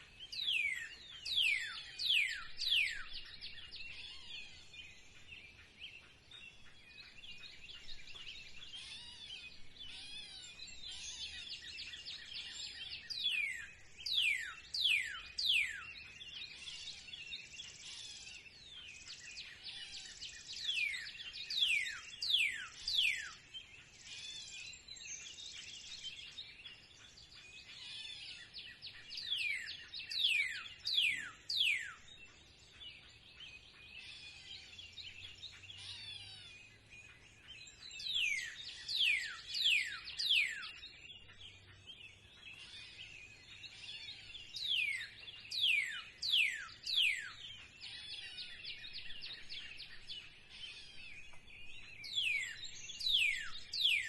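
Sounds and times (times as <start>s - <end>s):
birds chirping softly: 0.0s - 54.0s.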